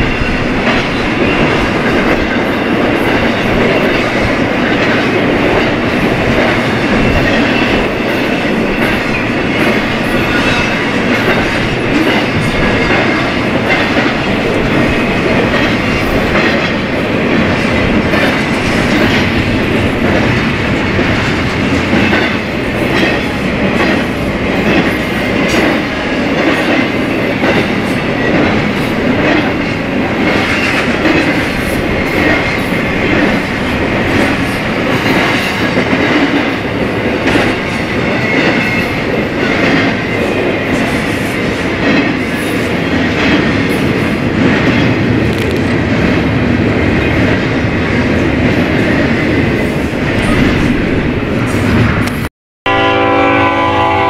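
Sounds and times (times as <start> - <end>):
clickety-clack of wheels on rail: 0.0 - 54.0
freight train rumbling past: 0.0 - 54.0.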